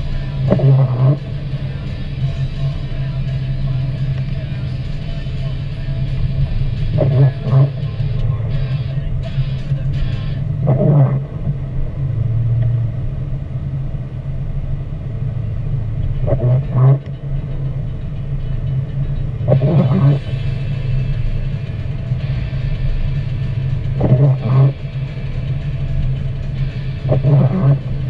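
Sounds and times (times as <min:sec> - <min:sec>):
car engine and tyre rumble: 0:00.0 - 0:28.0
windshield wipers swishing: 0:00.0 - 0:28.0.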